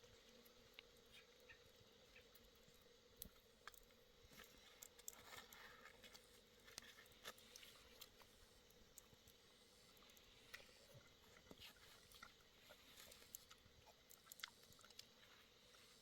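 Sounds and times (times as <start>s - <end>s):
faint ticks and clicks: 0.0s - 16.0s
low steady hum: 0.0s - 16.0s.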